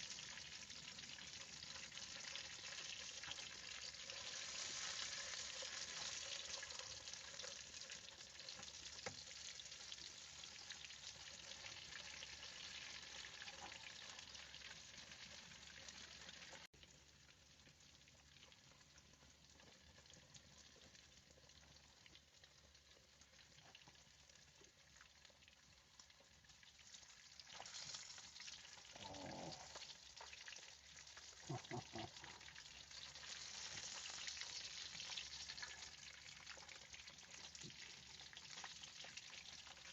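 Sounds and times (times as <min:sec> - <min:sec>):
food frying sizzle: 0:00.0 - 0:39.9.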